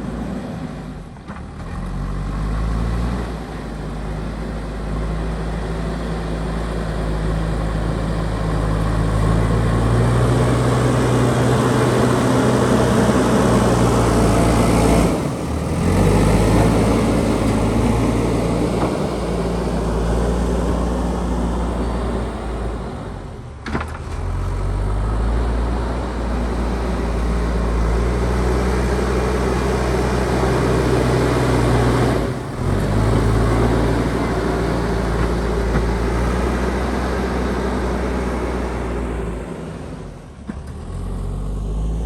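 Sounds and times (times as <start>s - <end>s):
diesel engine under load: 0.0s - 42.0s.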